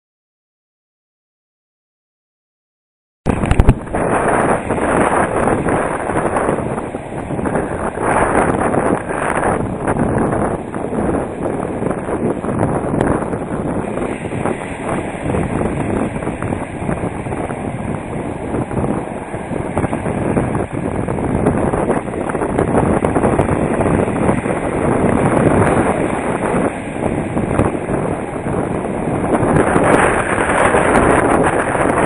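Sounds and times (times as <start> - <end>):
surf and moving water: 3.3 - 32.0
wind buffeting microphone: 3.3 - 32.0.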